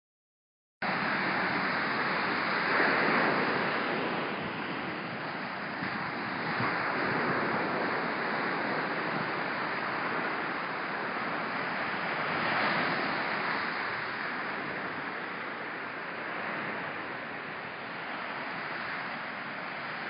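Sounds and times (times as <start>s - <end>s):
surf washing onto beach: 0.8s - 20.0s
wind on microphone: 0.8s - 20.0s.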